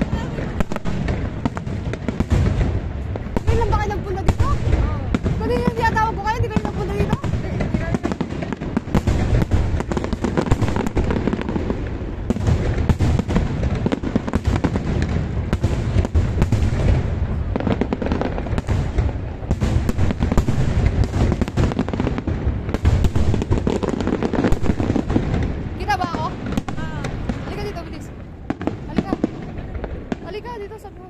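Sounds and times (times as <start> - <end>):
fireworks crackling: 0.0 - 31.0.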